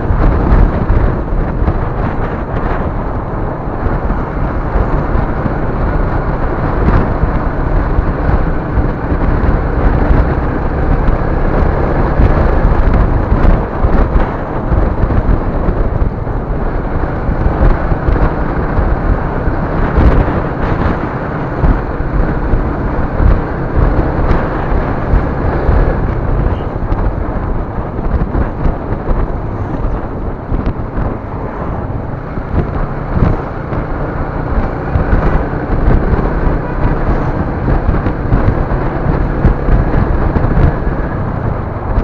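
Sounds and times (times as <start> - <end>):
vehicle road and engine rumble: 0.0 - 42.0.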